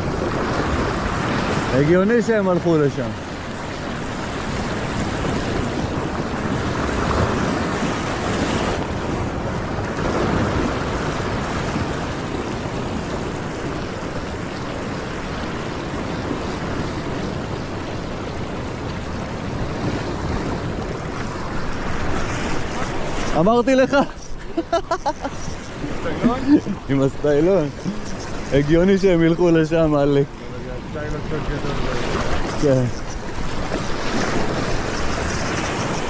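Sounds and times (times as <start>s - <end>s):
sea surf breaking over rocks: 0.0s - 36.0s
wind rumbling on microphone: 0.0s - 36.0s.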